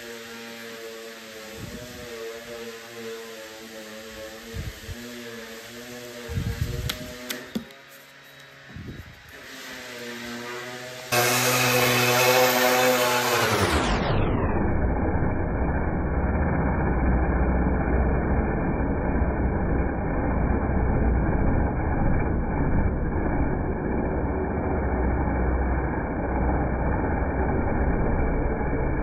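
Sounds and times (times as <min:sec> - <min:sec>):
muffled orbital sander drone: 0:00.0 - 0:29.0.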